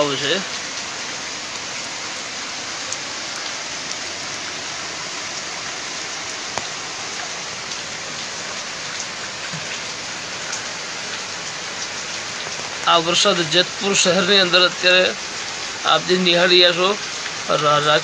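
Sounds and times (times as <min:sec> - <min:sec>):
heavy rain hissing: 0:00.0 - 0:18.0
raindrops ticking close by: 0:00.0 - 0:18.0.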